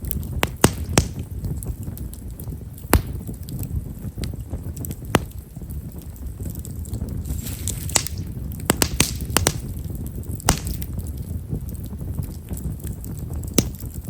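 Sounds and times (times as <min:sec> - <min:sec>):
campfire rumble: 0:00.0 - 0:14.0
fire crackles and pops: 0:00.0 - 0:14.0
fire hissing: 0:00.0 - 0:14.0.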